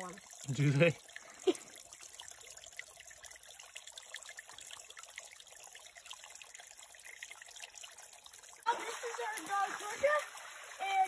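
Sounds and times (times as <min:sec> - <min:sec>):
faint trickle of creek water: 0:00.0 - 0:11.0.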